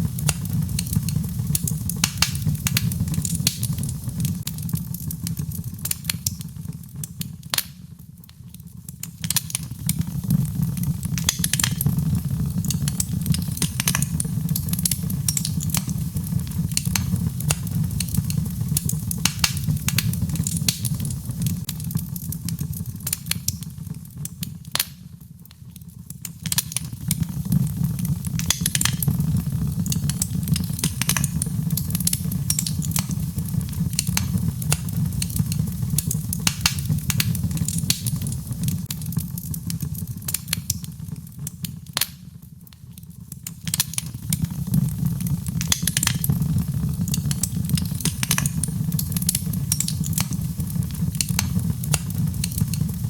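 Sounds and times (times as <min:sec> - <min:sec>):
fire low rumble: 0:00.0 - 0:42.0, 0:42.6 - 0:53.0
wood fire crackling and popping: 0:00.0 - 0:53.0.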